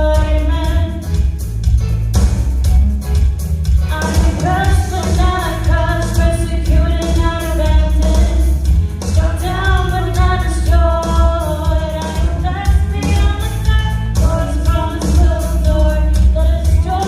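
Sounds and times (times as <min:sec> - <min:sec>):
worship song with band: 0:00.0 - 0:17.0.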